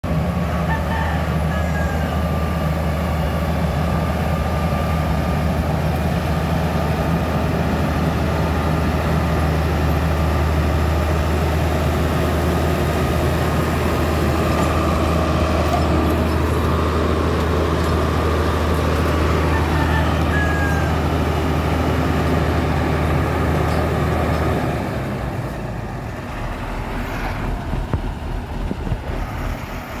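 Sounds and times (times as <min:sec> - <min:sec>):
diesel engine humming under load: 0:00.0 - 0:30.0.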